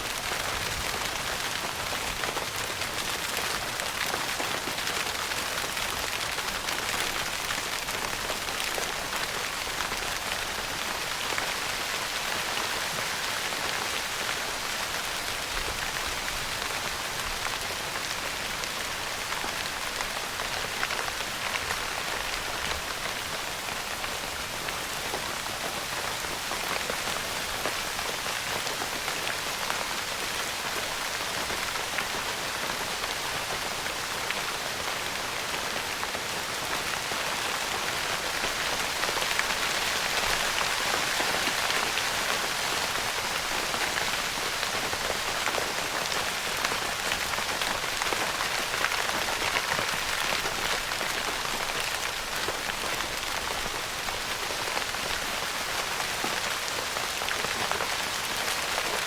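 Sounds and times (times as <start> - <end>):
rain pattering on tent fabric: 0.0 - 59.0.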